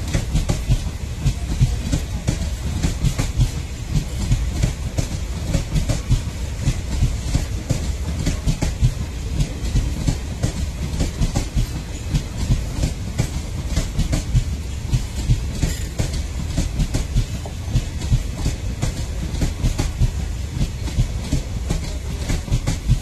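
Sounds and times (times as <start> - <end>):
low rumble of train: 0.0 - 23.0
train wheels clattering over rail joints: 0.0 - 23.0.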